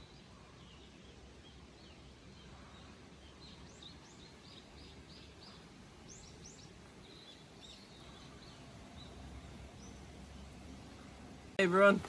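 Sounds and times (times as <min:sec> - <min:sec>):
low steady outdoor hiss: 0:00.0 - 0:12.0
songbird singing faintly: 0:00.0 - 0:12.0.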